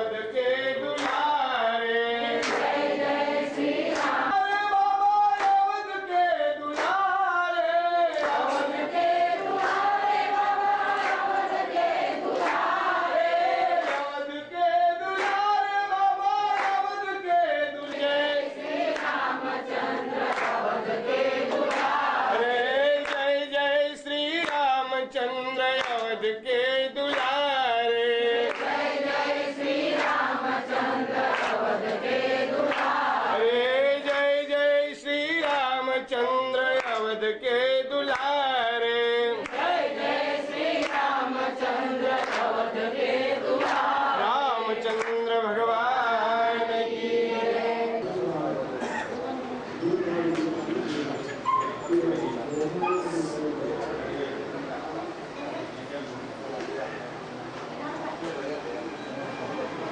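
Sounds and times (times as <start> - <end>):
group singing devotional song: 0.0 - 49.0.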